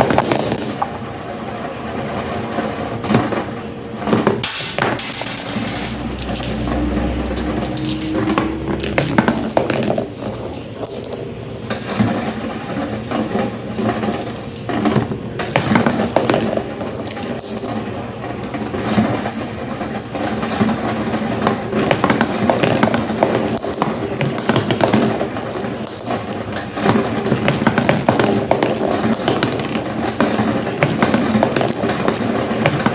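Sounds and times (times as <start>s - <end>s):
marbles rolling and clattering: 2.1s - 32.9s.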